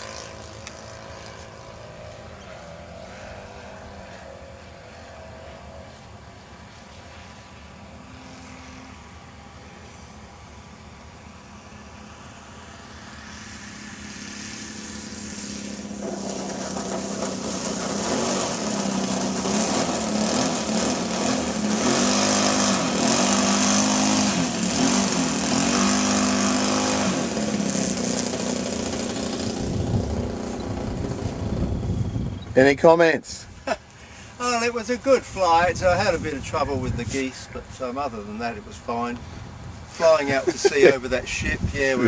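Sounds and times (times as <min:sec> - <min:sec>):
model aircraft engine: 0:00.0 - 0:42.0.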